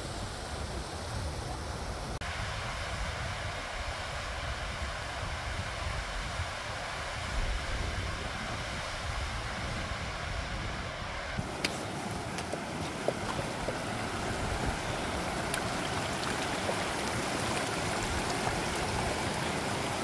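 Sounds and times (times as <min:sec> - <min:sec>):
rushing hiss of outdoor air: 0:00.0 - 0:20.0
wind buffeting microphone: 0:00.1 - 0:20.0.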